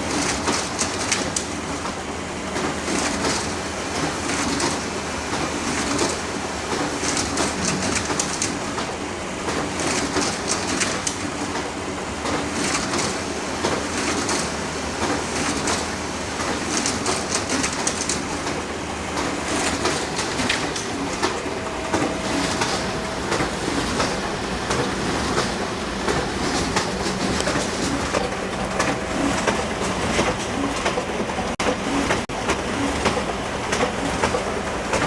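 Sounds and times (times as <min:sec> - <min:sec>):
photocopier running: 0:00.0 - 0:35.0.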